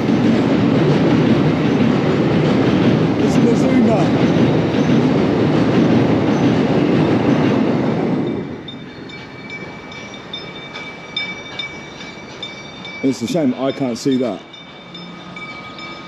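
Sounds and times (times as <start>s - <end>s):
train rumbling across bridge: 0.0s - 16.0s.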